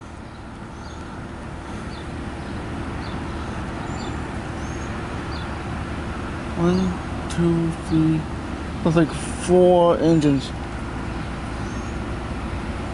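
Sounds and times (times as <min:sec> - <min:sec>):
diesel locomotives rumbling: 0:00.0 - 0:12.9.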